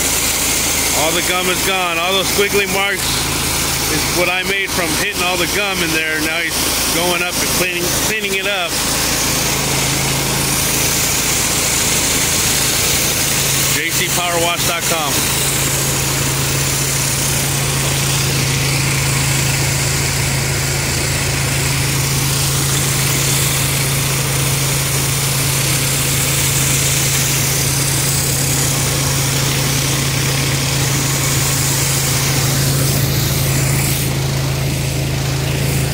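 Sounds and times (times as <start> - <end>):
pressure washer engine running: 0.0 - 35.9
water spray hissing: 0.0 - 35.9.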